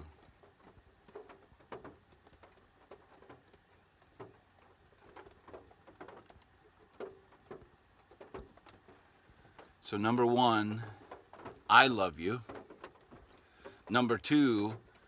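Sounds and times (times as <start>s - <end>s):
raindrops tapping on car: 0.0s - 15.0s.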